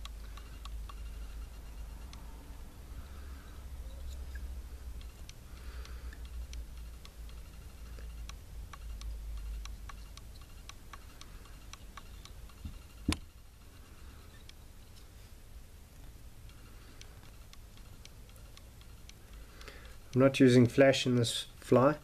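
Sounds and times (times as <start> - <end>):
faint light ticking: 0.0 - 21.9
low steady hum: 0.0 - 22.0.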